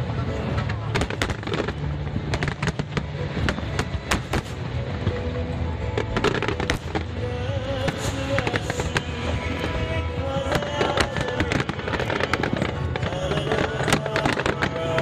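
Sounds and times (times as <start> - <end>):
fireworks bangs and crackles: 0.0 - 15.0
low rumble: 0.0 - 15.0
music playing: 0.0 - 15.0.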